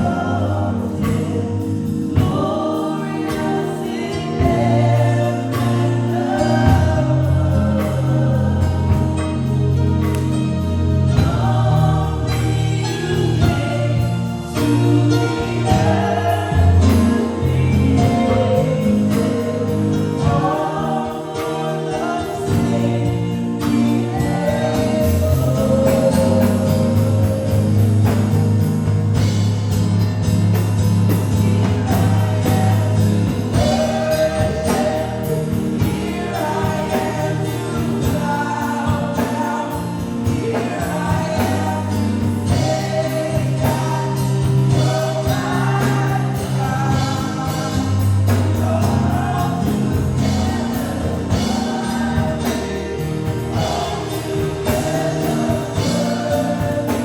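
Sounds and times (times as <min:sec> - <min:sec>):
band with low bass: 0:00.0 - 0:57.0
congregation singing worship music: 0:00.0 - 0:57.0.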